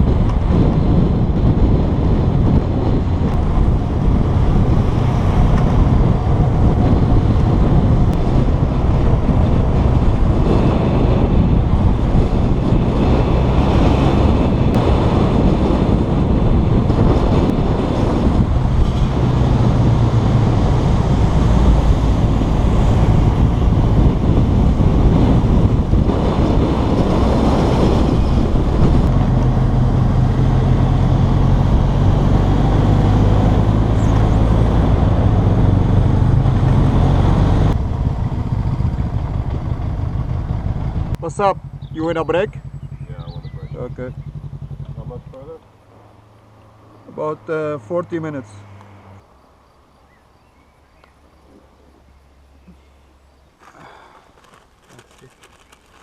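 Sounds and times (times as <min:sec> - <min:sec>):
wind buffeting microphone: 0:00.0 - 0:47.1
motorcycle engine drone: 0:00.0 - 0:55.7.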